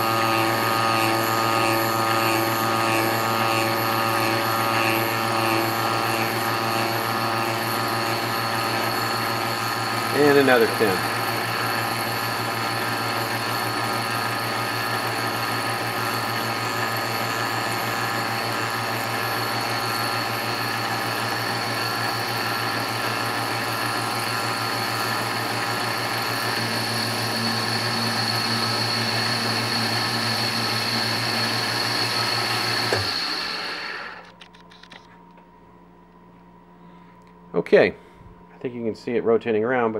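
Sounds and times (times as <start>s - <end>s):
lathe mechanical whine: 0.0s - 34.5s.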